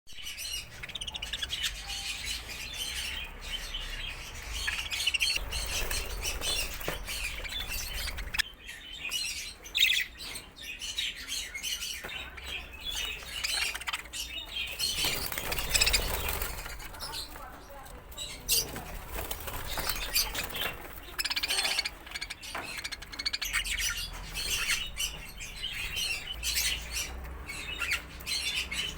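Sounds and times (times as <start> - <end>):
budgerigars chattering: 0.2 - 28.9.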